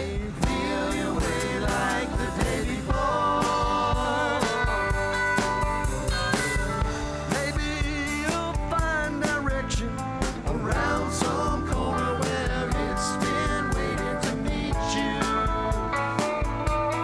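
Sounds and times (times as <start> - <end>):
person singing: 0.0 - 16.0
drum-kit beat: 0.1 - 17.0.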